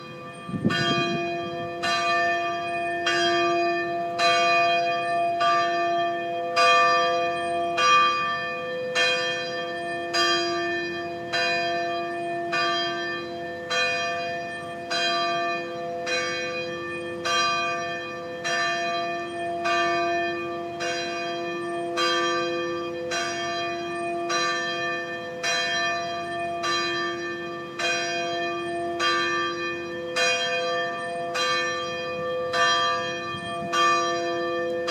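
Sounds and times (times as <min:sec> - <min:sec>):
bells ringing in a peal: 0:00.0 - 0:34.9.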